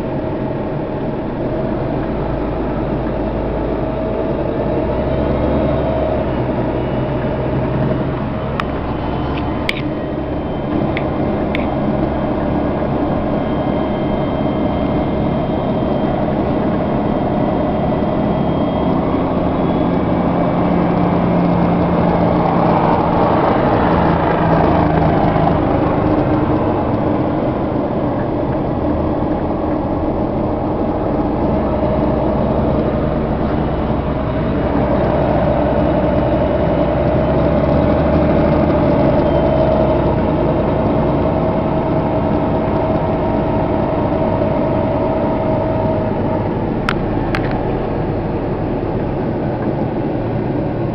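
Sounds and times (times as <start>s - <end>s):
truck engine and road noise: 0.0s - 50.9s.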